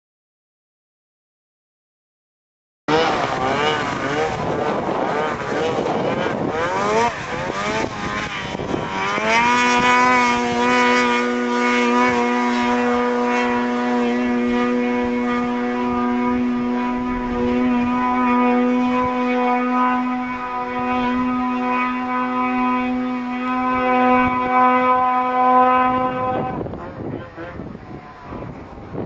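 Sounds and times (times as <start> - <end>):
snowmobile engine revving: 2.9 - 29.0.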